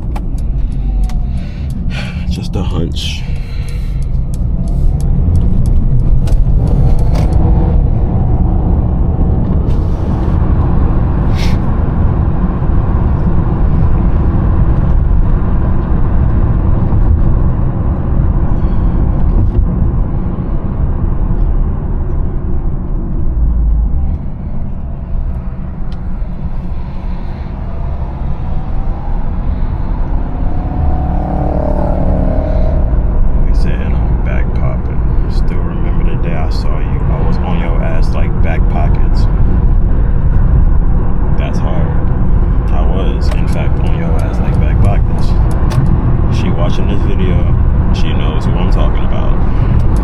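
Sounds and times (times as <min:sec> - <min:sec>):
car engine rumble: 0:00.0 - 0:50.0
road noise: 0:00.0 - 0:50.0.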